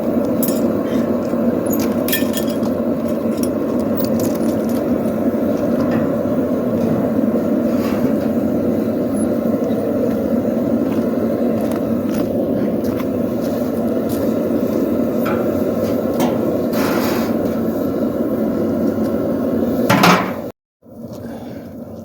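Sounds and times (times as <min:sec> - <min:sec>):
forge roaring: 0:00.0 - 0:19.9.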